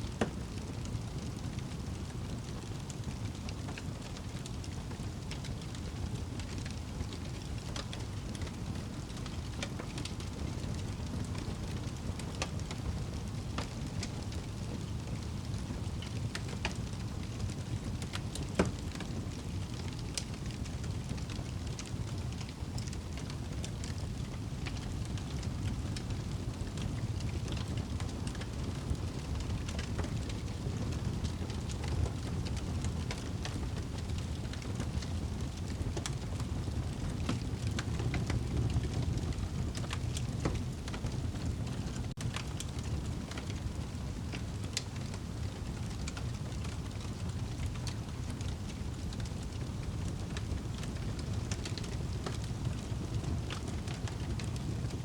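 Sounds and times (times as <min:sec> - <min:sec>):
fire rumbling: 0:00.1 - 0:55.0
fire crackling and popping: 0:00.2 - 0:55.0.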